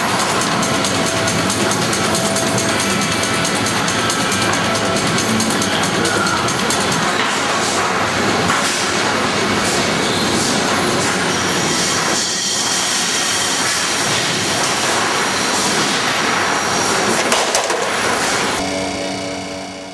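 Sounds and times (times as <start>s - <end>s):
diesel train running: 0.0s - 19.9s.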